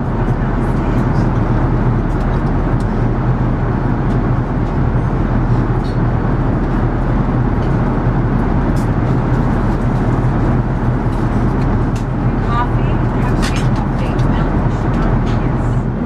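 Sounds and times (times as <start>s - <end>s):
airplane cabin noise: 0.0s - 16.0s.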